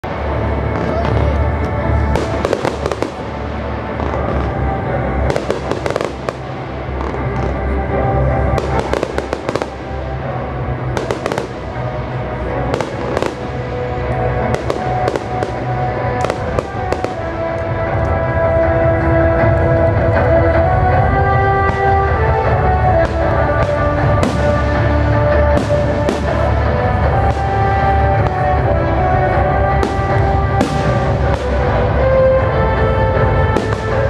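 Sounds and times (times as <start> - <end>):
fireworks bangs and crackles: 0.0 - 34.0
music playing: 0.0 - 34.0.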